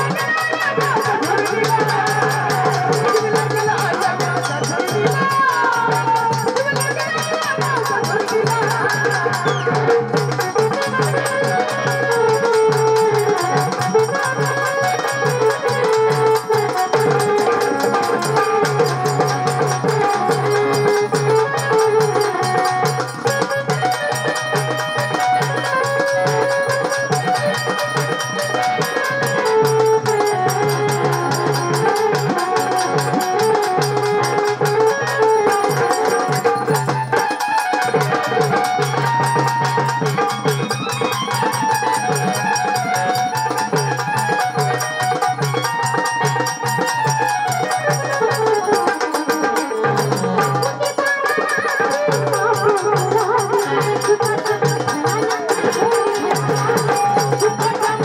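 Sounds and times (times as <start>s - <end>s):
fast hand drum percussion: 0.0s - 58.0s.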